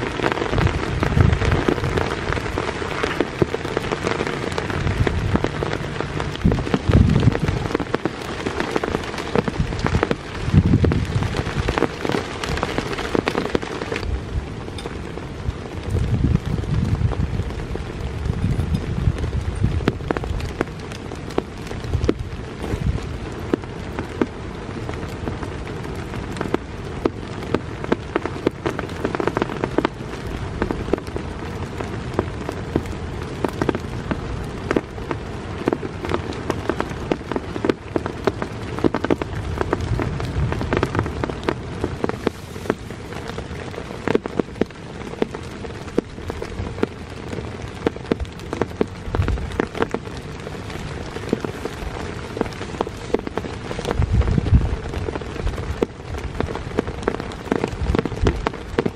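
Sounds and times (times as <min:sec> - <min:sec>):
heavy rain falling: 0:00.0 - 0:58.9
raindrops hitting a surface: 0:00.0 - 0:58.9.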